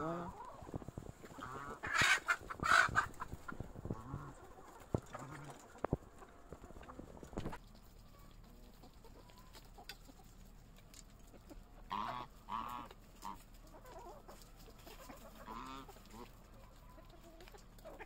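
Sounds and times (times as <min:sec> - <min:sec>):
hens and goose calling: 0:00.0 - 0:18.0.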